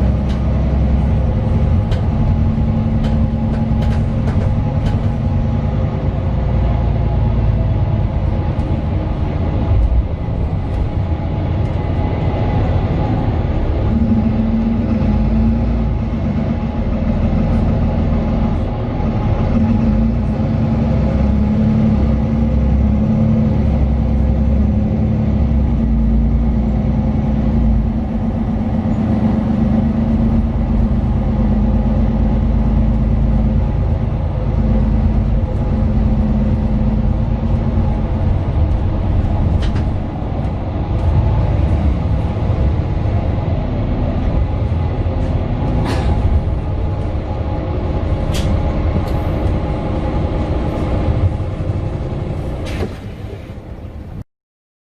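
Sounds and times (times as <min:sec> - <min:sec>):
bus engine hum: 0:00.0 - 0:54.2
deep road rumble: 0:00.0 - 0:54.2.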